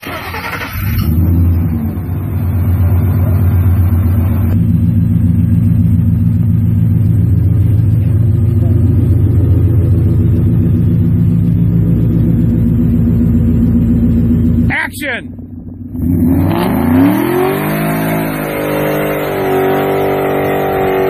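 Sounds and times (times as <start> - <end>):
deep exhaust rumble: 0.0 - 21.0.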